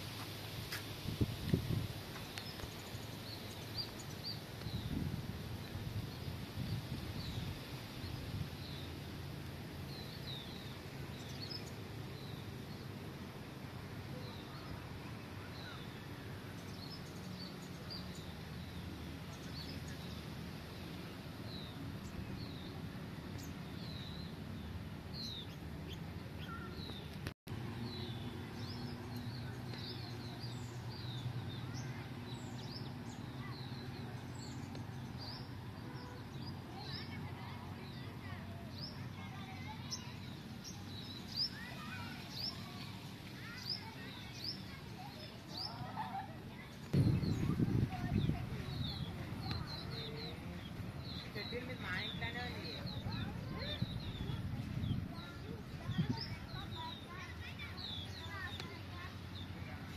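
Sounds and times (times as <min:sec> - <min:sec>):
low outdoor rumble: 0:00.0 - 0:59.9
small birds chirping: 0:00.0 - 0:59.9.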